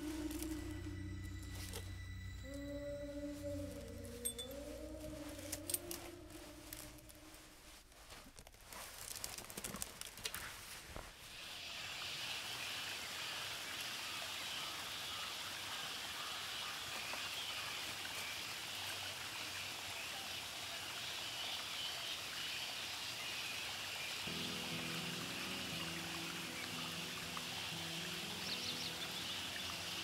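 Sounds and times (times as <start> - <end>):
forest ambience hiss: 0.0 - 9.2, 10.3 - 30.0.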